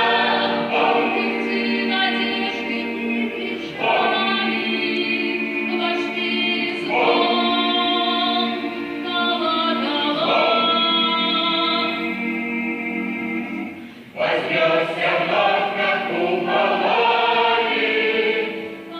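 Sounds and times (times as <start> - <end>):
a cappella choir singing chords: 0.0 - 18.9.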